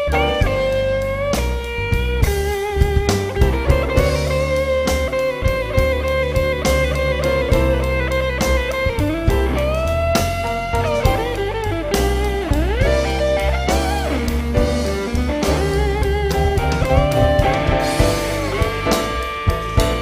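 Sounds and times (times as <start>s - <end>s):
bass guitar: 0.0s - 20.0s
drums: 0.0s - 20.0s
electric guitar lead line: 0.0s - 20.0s.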